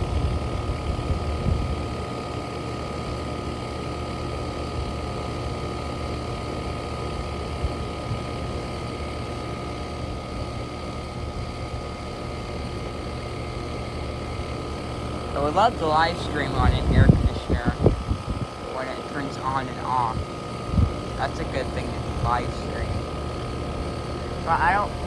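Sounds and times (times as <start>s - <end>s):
air conditioner fan whirring: 0.0s - 25.0s
compressor hum: 0.0s - 25.0s.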